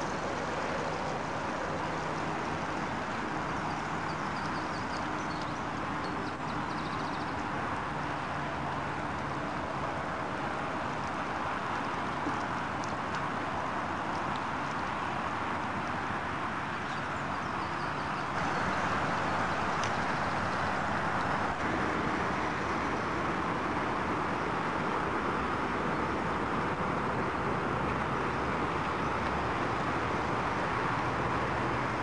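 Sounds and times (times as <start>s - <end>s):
model boat motor and propeller wash: 0.0s - 32.0s.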